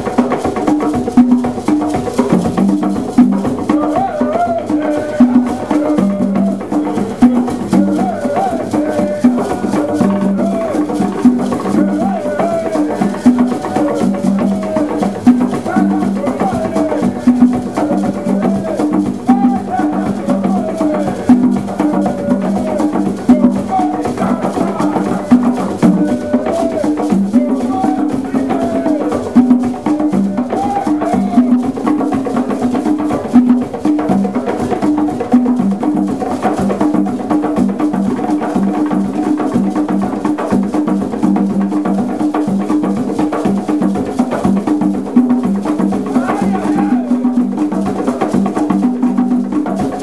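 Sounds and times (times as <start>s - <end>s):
hand drums ensemble: 0.0s - 50.0s.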